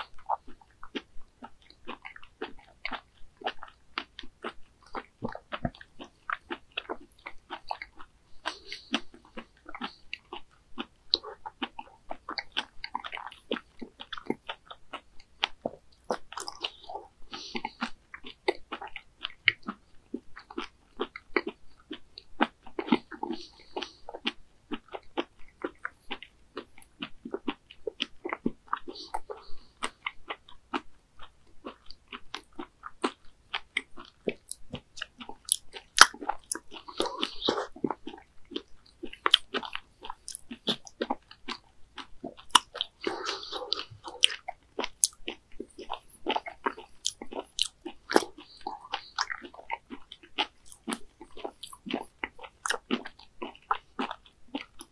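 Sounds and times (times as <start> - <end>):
person chewing raw squid: 0.0 - 54.9.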